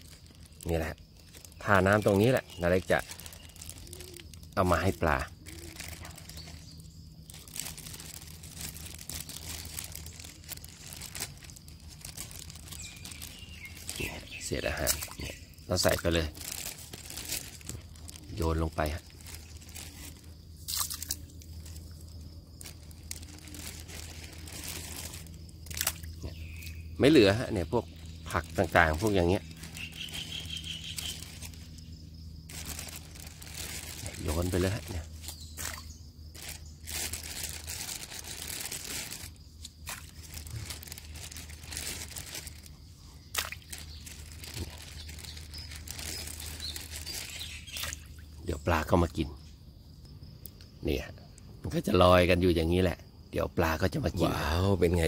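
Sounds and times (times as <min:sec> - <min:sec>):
packaging crinkling and rustling: 0:00.0 - 0:26.8, 0:27.8 - 0:48.2.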